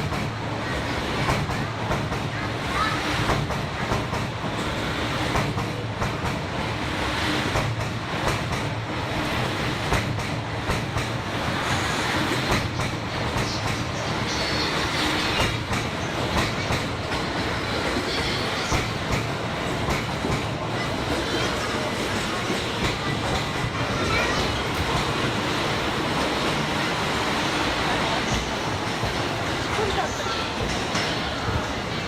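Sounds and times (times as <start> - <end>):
train rumble: 0.0 - 32.0
train wheels clicking over rail joints: 1.1 - 32.0.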